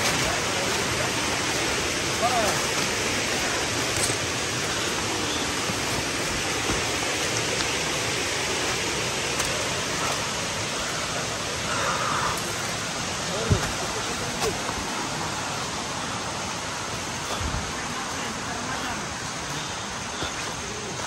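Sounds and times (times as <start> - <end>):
river rapids rushing: 0.0 - 21.0.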